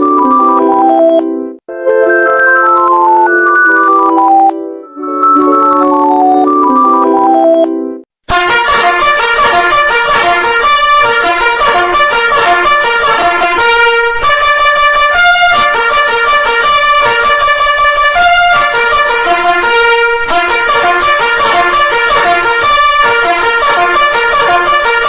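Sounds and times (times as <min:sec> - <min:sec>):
electronic emergency alert jingle: 0:00.0 - 0:25.0.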